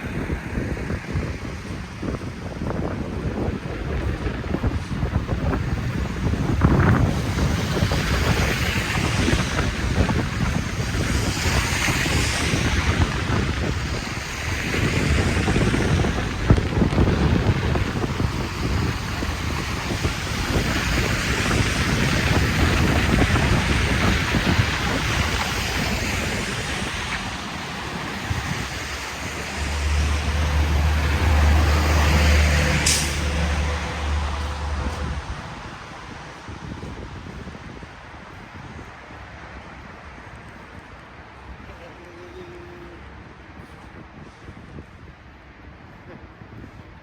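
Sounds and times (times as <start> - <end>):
vehicle engine humming: 0.0 - 43.9
wind buffeting microphone: 0.0 - 47.0.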